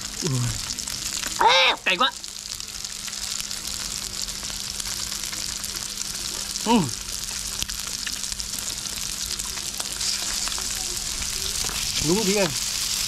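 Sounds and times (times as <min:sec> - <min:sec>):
octopus sizzling on a grill: 0:00.0 - 0:13.0.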